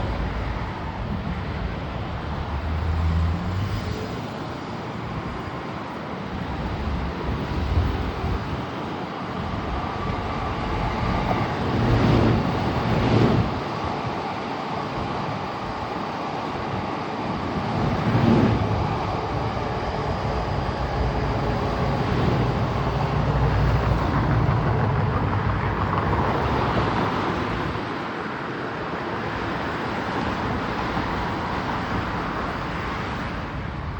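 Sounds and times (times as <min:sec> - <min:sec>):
electric train passing on rails: 0:00.0 - 0:33.9
traffic noise: 0:00.0 - 0:33.9.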